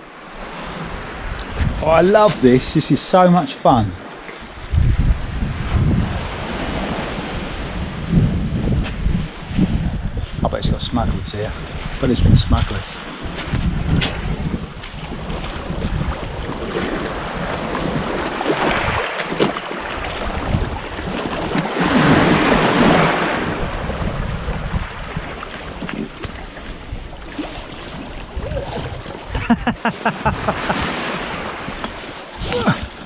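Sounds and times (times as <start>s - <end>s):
sea surf washing in: 0.0s - 10.4s, 12.8s - 33.0s
wind buffeting microphone: 0.6s - 2.8s, 4.4s - 33.0s.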